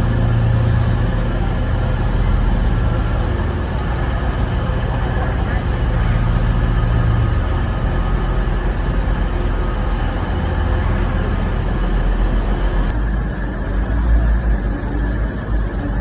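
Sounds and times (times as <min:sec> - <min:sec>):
faint hum of tones: 0:00.0 - 0:16.0
train rumbling: 0:00.0 - 0:16.0.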